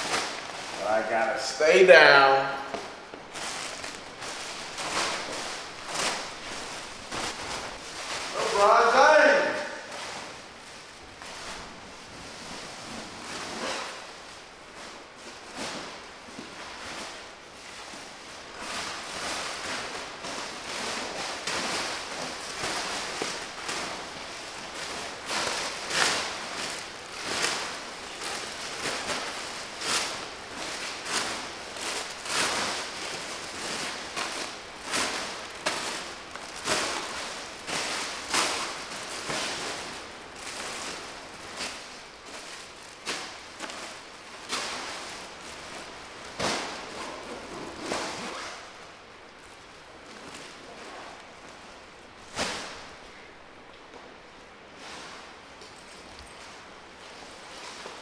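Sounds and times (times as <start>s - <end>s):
plastic packaging rustling: 0.0s - 58.0s.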